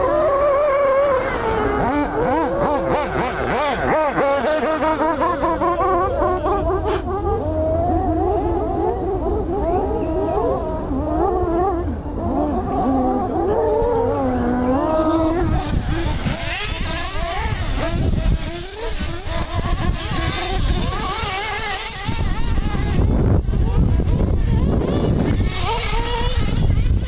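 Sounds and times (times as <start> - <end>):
high hissy engine whine: 0.0 - 27.0
rc car engines racing: 0.0 - 27.0.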